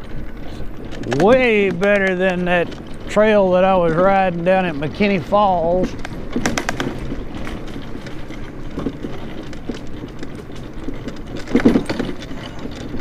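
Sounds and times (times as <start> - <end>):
scooter rattling: 0.0 - 13.0
scooter tyres rumbling on concrete: 0.0 - 13.0.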